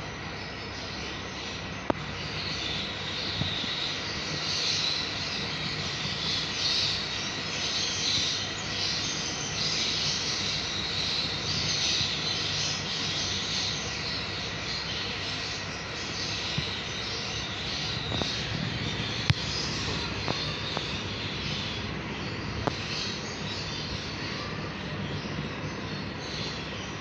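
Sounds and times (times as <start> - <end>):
steady low hum: 0.0 - 27.0
parrot chicks raspy begging: 1.6 - 27.0.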